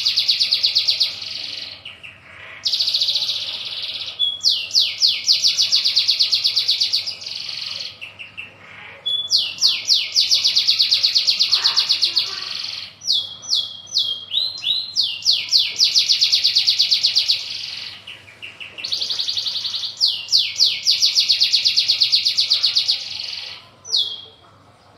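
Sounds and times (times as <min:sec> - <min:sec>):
canary trilling song: 0:00.0 - 0:24.9.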